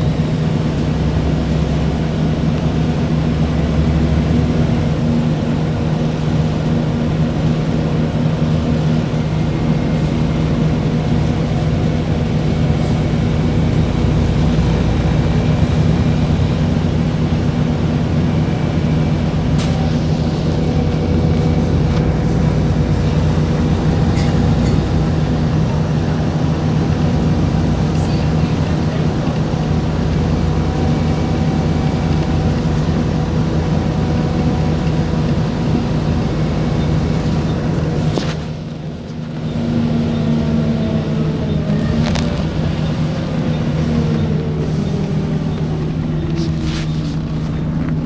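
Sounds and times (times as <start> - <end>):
vehicle engine drone: 0.0 - 48.0.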